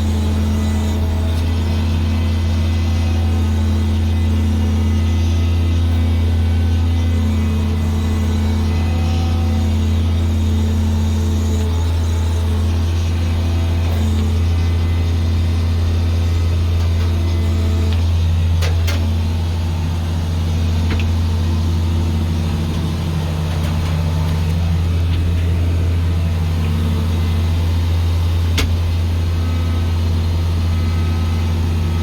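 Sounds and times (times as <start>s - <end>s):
heavy farm machine engine droning: 0.0s - 32.0s.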